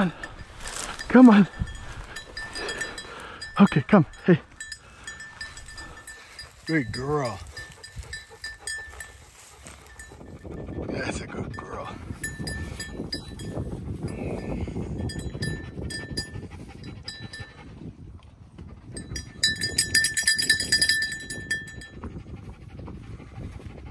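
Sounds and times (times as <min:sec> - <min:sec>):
small bell jingling on dog collar: 0:00.0 - 0:17.7, 0:18.9 - 0:22.1.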